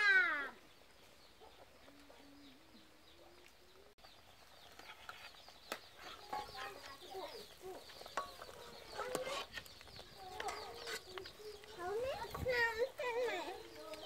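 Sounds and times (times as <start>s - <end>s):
faint chickens clucking: 0.5s - 14.0s.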